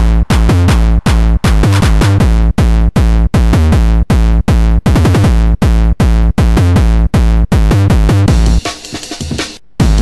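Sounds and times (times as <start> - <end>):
electronic music with drum machine: 0.0 - 10.0.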